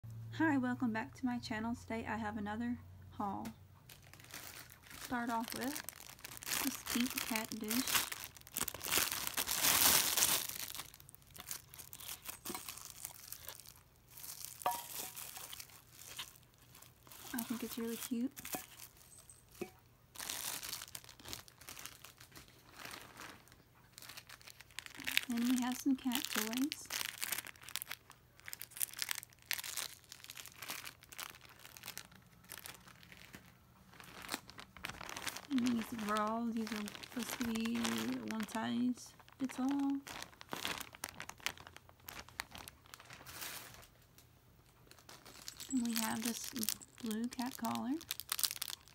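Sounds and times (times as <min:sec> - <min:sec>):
plastic wrap crinkling and tearing: 0:03.8 - 0:48.9.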